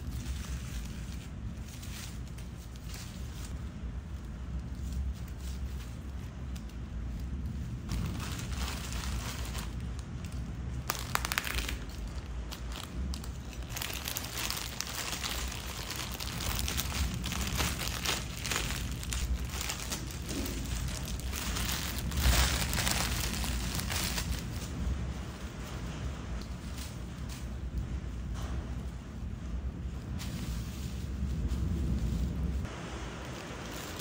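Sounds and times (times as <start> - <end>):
plastic packaging crinkling: 0.0 - 25.0, 30.1 - 34.0
low steady hum: 0.0 - 34.0.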